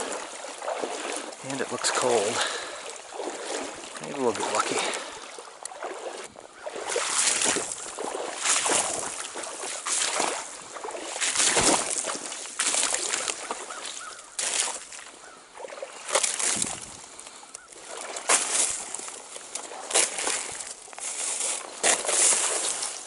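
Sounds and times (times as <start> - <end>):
water sloshing around legs: 0.0 - 23.0.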